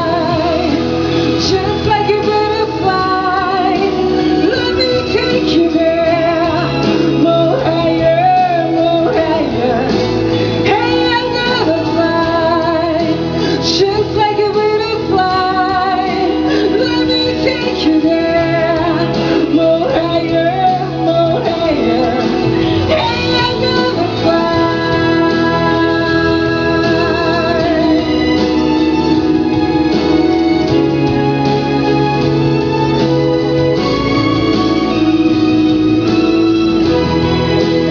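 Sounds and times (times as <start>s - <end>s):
person singing with vibrato: 0.0s - 37.9s
pop-rock song with band: 0.0s - 37.9s.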